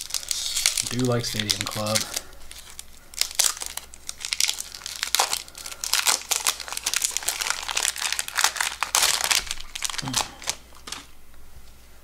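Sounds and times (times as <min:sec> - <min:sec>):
plastic wrapper crinkling and tearing: 0:00.0 - 0:11.1.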